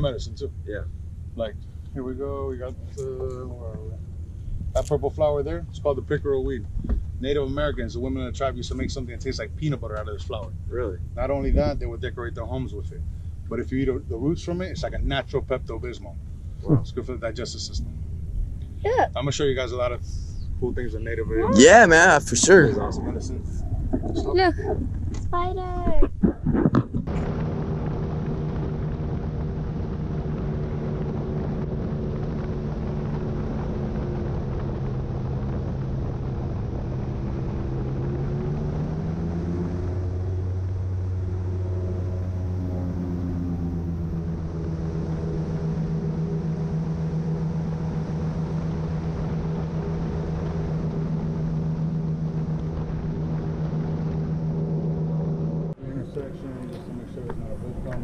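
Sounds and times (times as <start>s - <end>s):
airboat engine and propeller: 0.0s - 58.0s.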